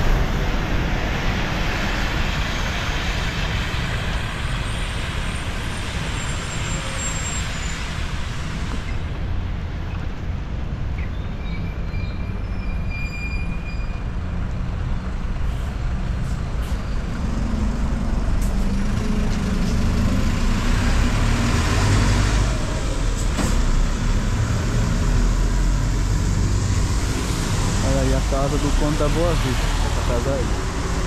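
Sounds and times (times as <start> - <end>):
heavy vehicle engine: 0.0 - 31.0
vehicles passing with tyre hiss: 0.0 - 31.0.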